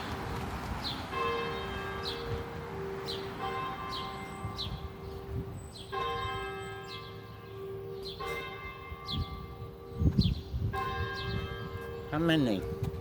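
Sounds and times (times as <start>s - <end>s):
church bells ringing: 1.1s - 13.0s
steady low bell tone: 1.1s - 13.0s.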